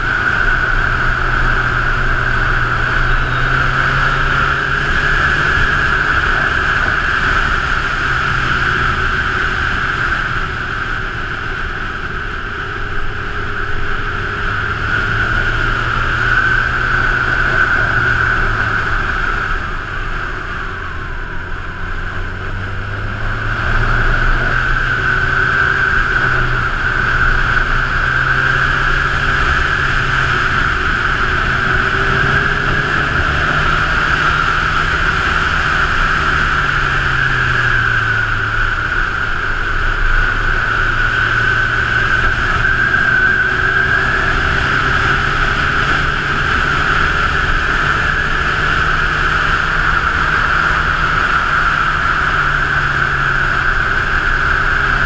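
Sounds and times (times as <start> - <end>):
motorcycle engine running: 0.0 - 55.0
road noise: 0.0 - 55.0
wind noise: 0.0 - 55.0.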